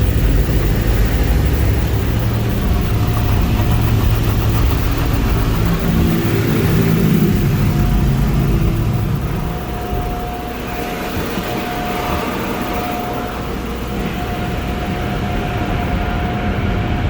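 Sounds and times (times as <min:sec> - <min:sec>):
car wash machinery rumble: 0:00.0 - 0:17.0
high whine: 0:00.0 - 0:17.0.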